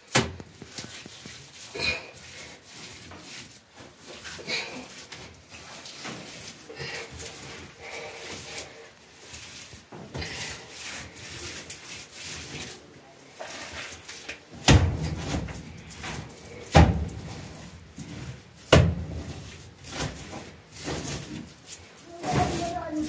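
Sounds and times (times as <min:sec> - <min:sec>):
hand rubbing wet mud: 0:00.0 - 0:23.0.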